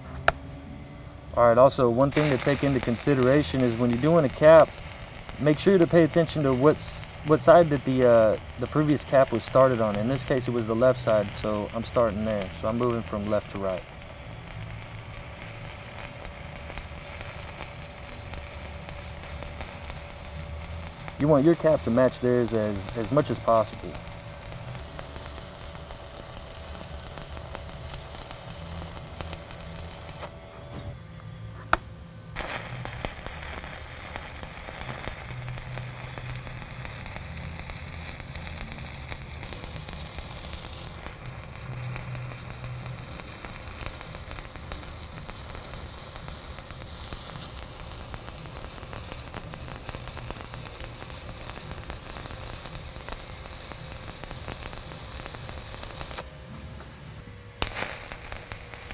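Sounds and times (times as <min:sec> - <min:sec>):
welding arc crackling: 0:01.6 - 0:30.3, 0:32.4 - 0:56.3, 0:57.6 - 0:58.9.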